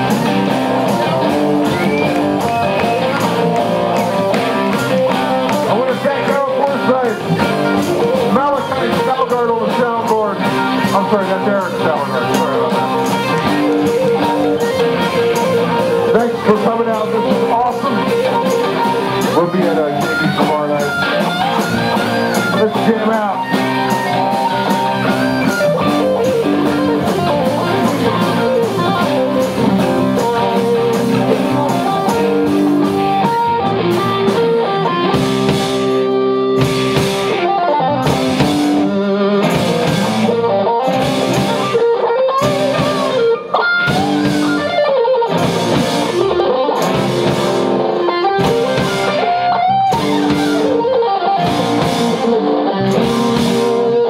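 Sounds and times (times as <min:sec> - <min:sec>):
drum and cymbal hits: 0:00.0 - 0:43.3, 0:43.9 - 0:54.0
electric guitar lead lines: 0:00.0 - 0:54.0.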